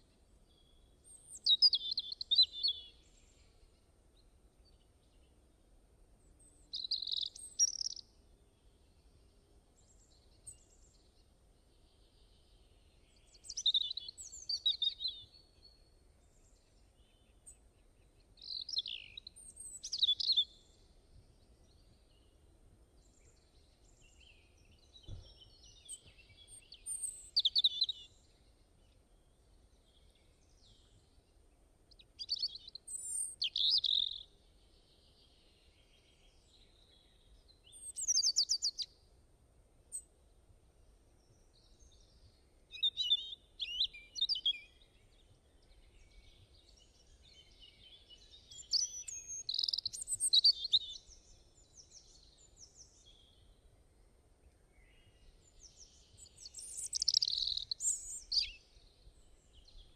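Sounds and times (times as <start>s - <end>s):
songbird singing: 0.0s - 39.2s, 39.8s - 59.9s.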